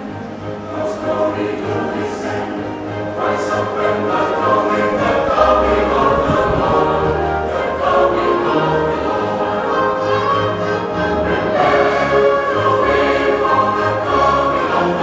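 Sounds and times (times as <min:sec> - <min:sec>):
choir singing a carol: 0:00.0 - 0:15.0.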